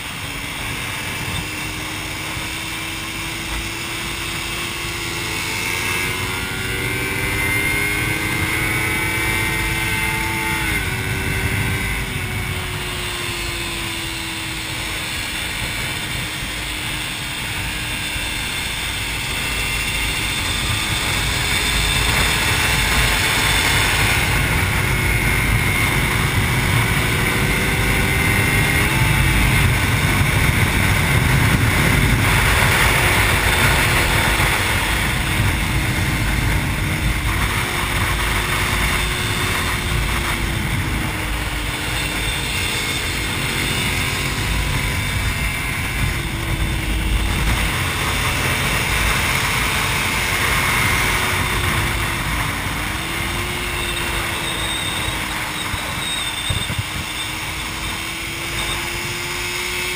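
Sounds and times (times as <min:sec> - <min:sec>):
motorcycle engine running hard: 0:00.0 - 0:59.9
wind rush: 0:00.0 - 0:59.9.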